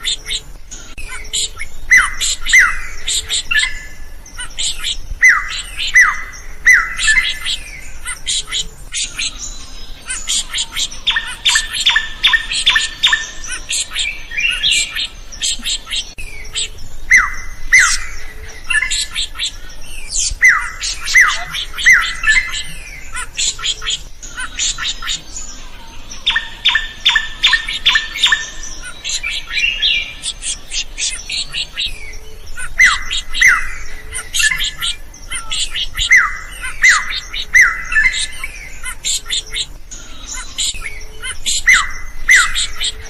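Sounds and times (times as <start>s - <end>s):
bird singing whistles and squawks: 0.0s - 43.0s.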